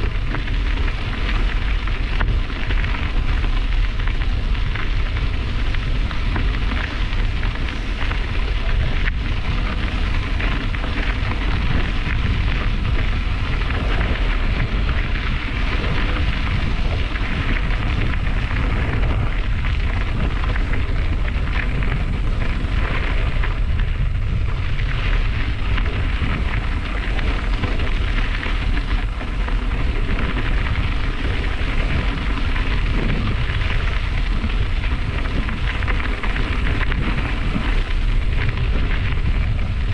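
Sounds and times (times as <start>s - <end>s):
bicycle tyres rolling on gravel: 0.0s - 39.9s
wind rushing over microphone: 0.0s - 39.9s.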